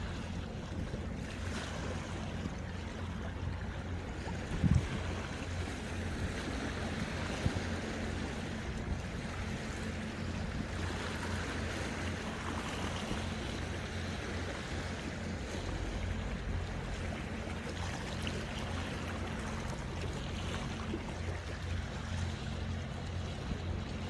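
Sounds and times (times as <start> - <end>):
waves lapping against rocks: 0.0 - 24.0.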